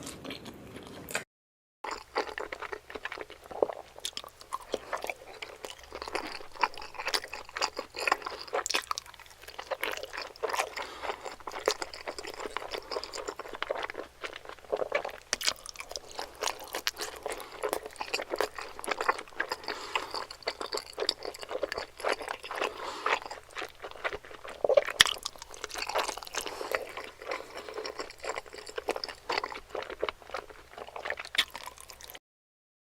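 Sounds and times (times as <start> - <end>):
people chewing food: 0.0 - 1.2, 1.8 - 32.2.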